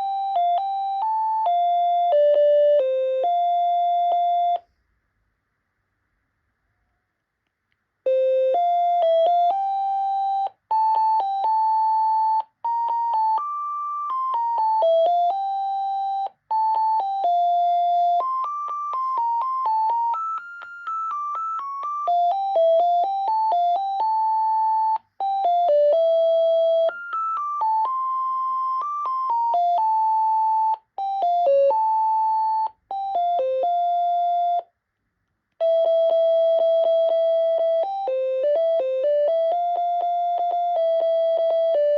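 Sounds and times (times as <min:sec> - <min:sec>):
cordless phone melody ringtone: 0:00.0 - 0:04.6, 0:08.1 - 0:34.7, 0:35.6 - 0:41.9.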